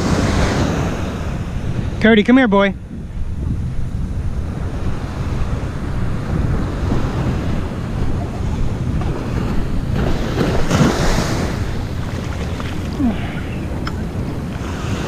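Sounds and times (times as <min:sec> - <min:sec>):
ocean surf breaking: 0:00.0 - 0:02.7, 0:04.4 - 0:15.0
wind buffeting microphone: 0:00.0 - 0:15.0.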